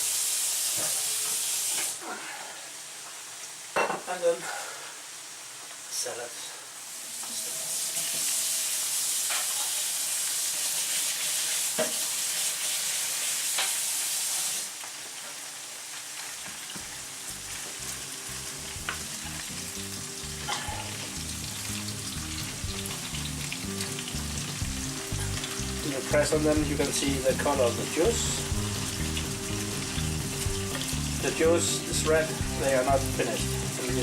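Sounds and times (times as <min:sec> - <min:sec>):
meat sizzling in oil: 0:00.0 - 0:02.0, 0:02.6 - 0:34.0.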